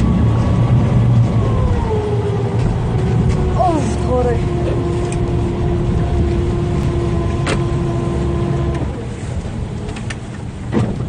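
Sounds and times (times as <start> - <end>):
steady hum: 0.0 - 10.7
boat engine rumbling: 0.0 - 11.0.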